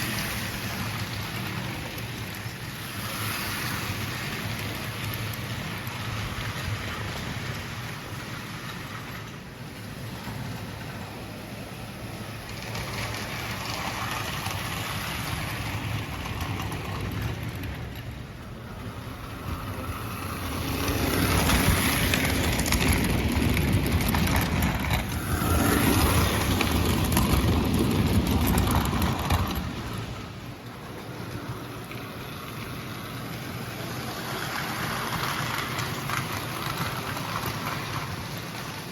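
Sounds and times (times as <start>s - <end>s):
toy train wheels clacking: 0.0s - 9.4s, 12.2s - 38.9s
toy train motor rumble: 0.0s - 38.9s.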